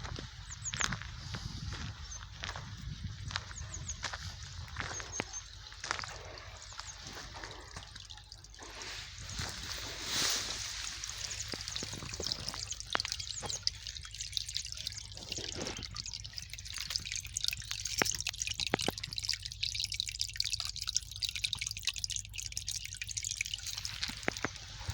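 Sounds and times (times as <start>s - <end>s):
water trickling and dripping: 0.0s - 24.9s.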